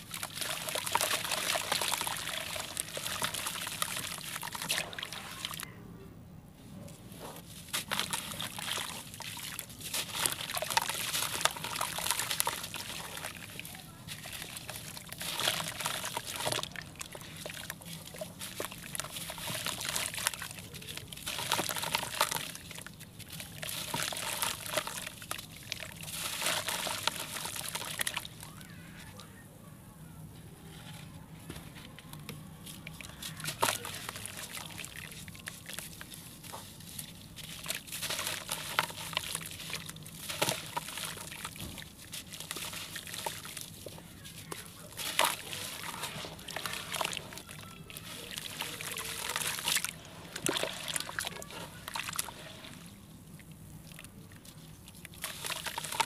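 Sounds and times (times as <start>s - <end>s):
water sloshing and dripping: 0.0s - 5.7s, 7.4s - 28.6s, 32.0s - 56.0s
wet chunks crunching and crackling: 0.0s - 5.7s, 7.0s - 29.4s, 30.7s - 56.0s.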